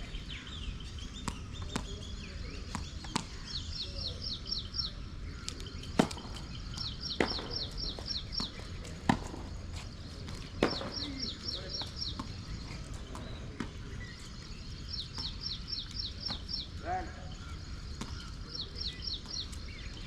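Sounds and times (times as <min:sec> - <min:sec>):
bird chirping: 0:00.0 - 0:08.9, 0:09.8 - 0:20.0
tennis balls struck and bouncing: 0:01.1 - 0:04.1, 0:05.4 - 0:16.8, 0:17.9 - 0:20.0.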